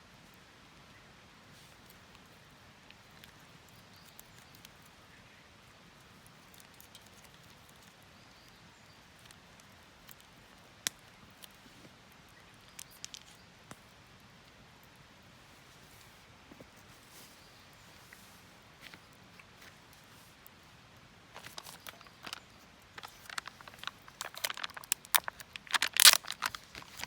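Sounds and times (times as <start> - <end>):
background hiss: 0.0 - 27.0.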